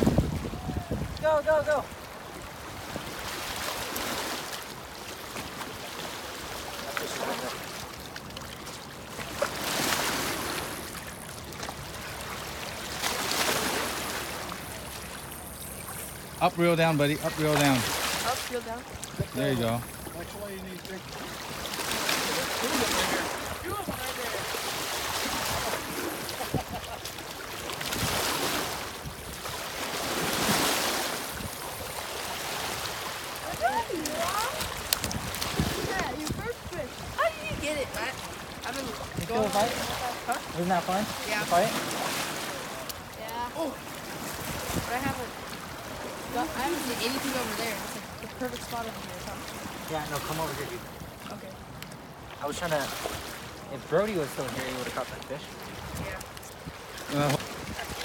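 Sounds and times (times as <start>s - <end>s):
river water lapping on rocks: 0.0s - 58.0s
wind: 0.0s - 58.0s.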